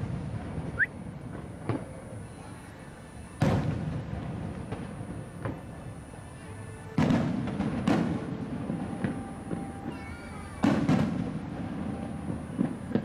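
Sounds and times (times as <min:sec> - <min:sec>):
fireworks booming: 0:00.0 - 0:02.6, 0:03.2 - 0:13.0.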